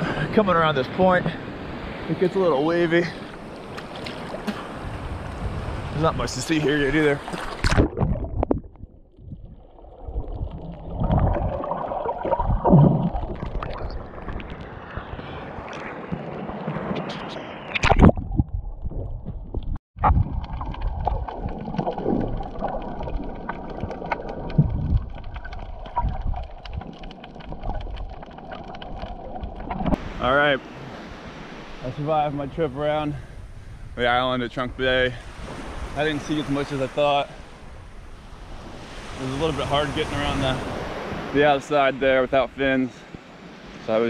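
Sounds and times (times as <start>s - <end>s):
underwater water rush and gurgling: 0.0s - 34.0s, 34.6s - 43.9s.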